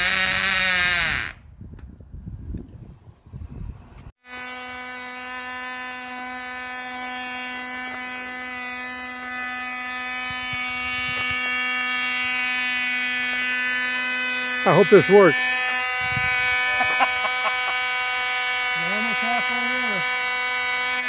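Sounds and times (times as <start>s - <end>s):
model plane engine buzzing: 0.0s - 1.4s, 4.2s - 21.0s.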